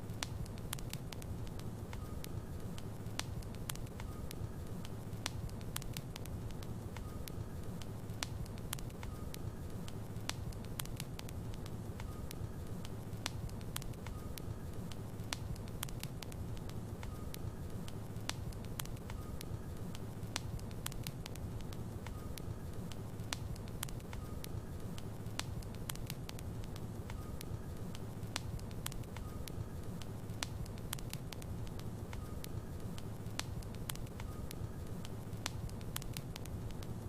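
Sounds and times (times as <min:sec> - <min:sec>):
fire crackles and pops: 0:00.0 - 0:37.0.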